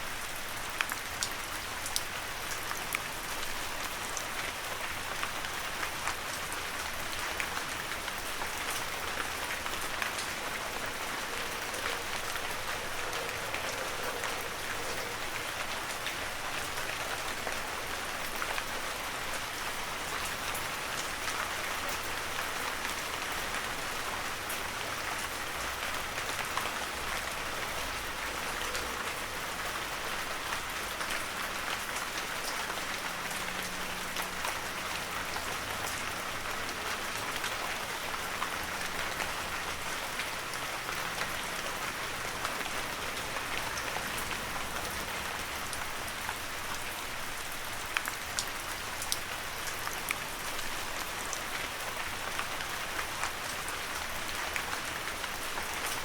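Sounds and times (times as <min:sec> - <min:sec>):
heavy rain in a forest: 0:00.0 - 0:56.0.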